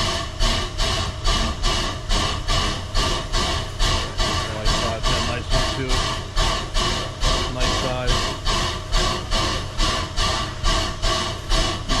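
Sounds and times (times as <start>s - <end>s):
steam locomotive hissing puffs: 0.0s - 12.0s.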